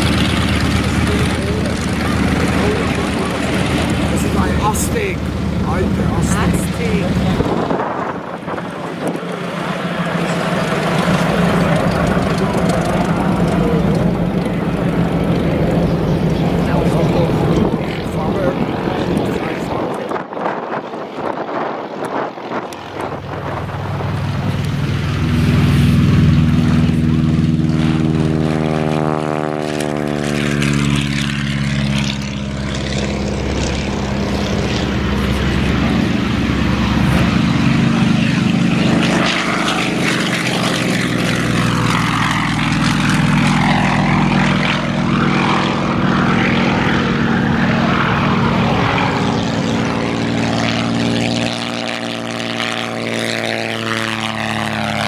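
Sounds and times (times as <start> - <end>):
propeller airplane engine: 0.0 - 55.0.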